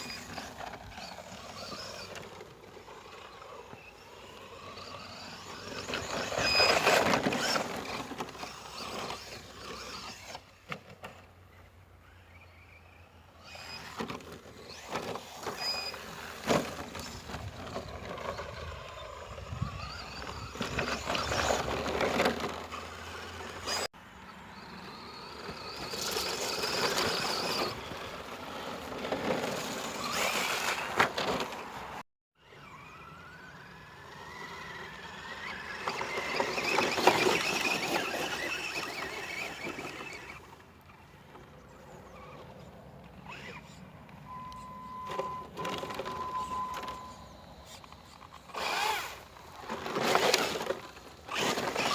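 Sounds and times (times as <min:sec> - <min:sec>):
electric motor whining: 0:00.0 - 0:23.9, 0:24.5 - 0:40.8, 0:43.2 - 0:43.8, 0:44.4 - 0:51.9
tyres on gravel: 0:00.0 - 0:51.9.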